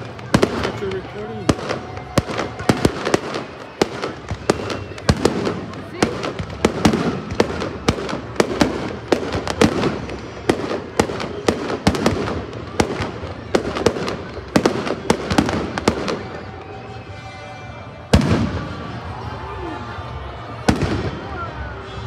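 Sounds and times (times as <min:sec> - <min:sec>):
fireworks bursting: 0:00.0 - 0:19.4, 0:20.5 - 0:22.0.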